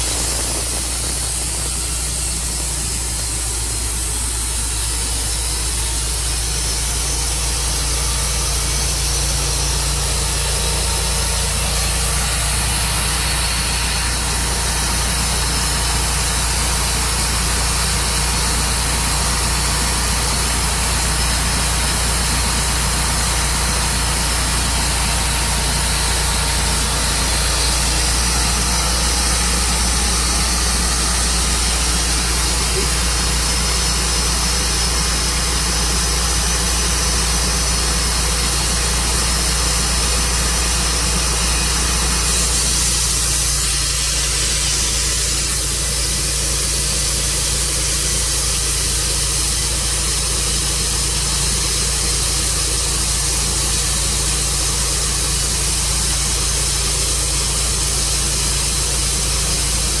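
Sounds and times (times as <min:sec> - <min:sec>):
high hiss: 0:00.0 - 1:00.0
sawmill engine drone: 0:00.0 - 1:00.0.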